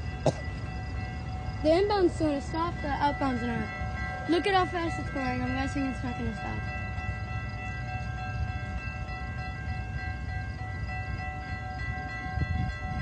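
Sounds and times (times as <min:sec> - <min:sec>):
thin ringing tones: 0:00.0 - 0:13.0
train rumbling past: 0:00.0 - 0:13.0.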